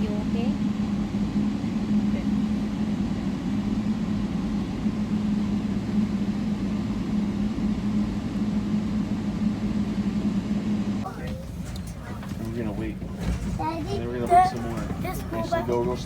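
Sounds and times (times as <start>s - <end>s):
bus engine hum inside cabin: 0.0s - 16.0s.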